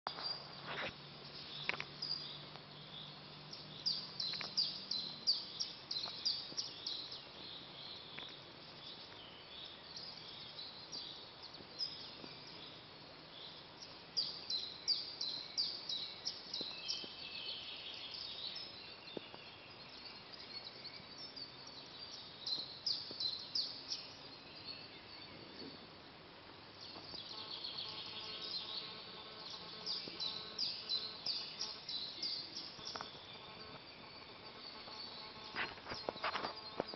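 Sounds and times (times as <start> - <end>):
faint background hiss: 0.1 - 36.9
songbirds chirping: 0.1 - 36.9.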